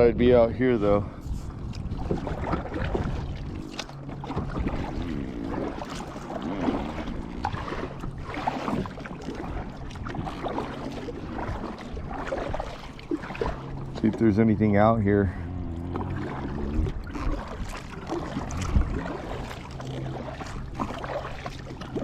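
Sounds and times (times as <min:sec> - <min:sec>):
water lapping against kayak hull: 0:00.0 - 0:22.0.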